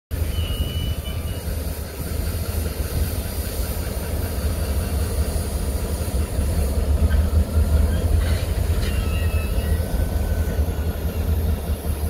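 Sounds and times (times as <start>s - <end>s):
locomotives idling: 0.1s - 12.0s.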